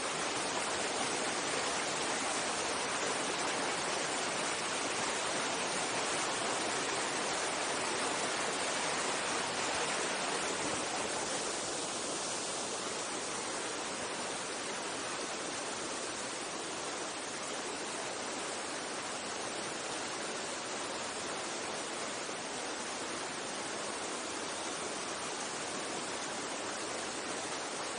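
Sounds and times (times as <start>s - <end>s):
water rushing over rocks: 0.0s - 27.9s.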